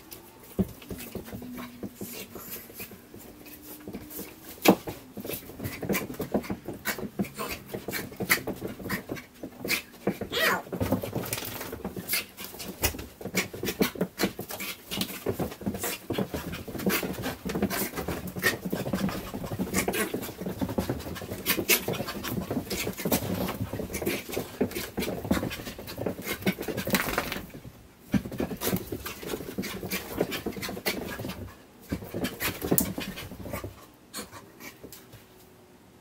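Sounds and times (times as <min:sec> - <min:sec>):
knocks and scuffs of running: 0:00.0 - 0:35.3.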